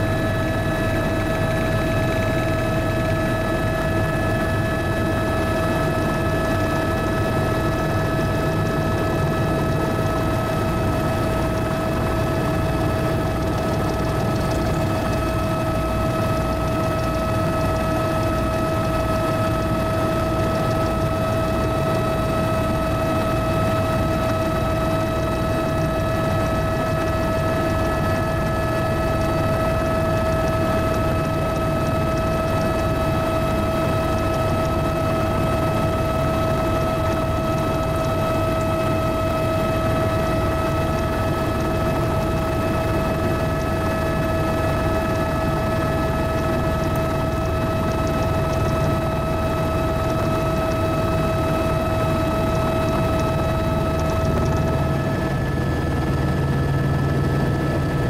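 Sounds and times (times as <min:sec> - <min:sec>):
helicopter high whine: 0:00.0 - 0:58.0
helicopter low rumble: 0:00.0 - 0:58.0.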